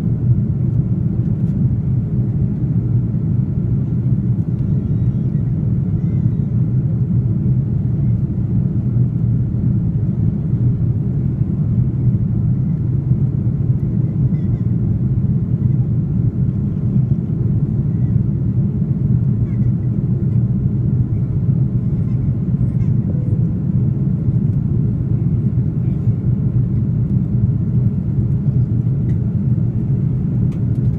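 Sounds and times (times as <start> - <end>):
airliner cabin engine rumble: 0.0 - 30.9.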